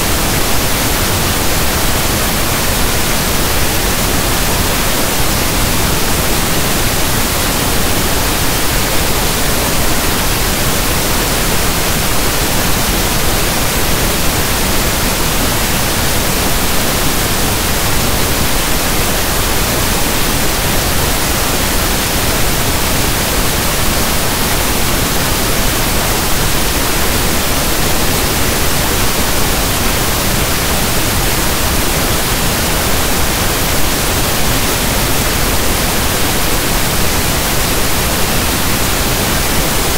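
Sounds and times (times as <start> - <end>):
pink noise static hiss: 0.0 - 39.9.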